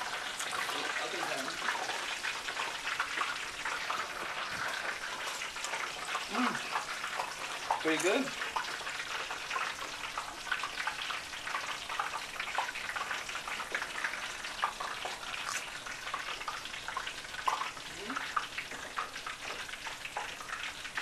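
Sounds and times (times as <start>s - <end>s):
hot oil sizzling and crackling: 0.0s - 21.0s.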